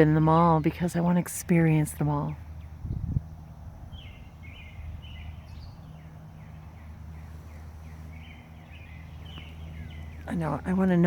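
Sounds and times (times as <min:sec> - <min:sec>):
birds chirping: 0:00.0 - 0:11.0
low hum: 0:00.0 - 0:11.0.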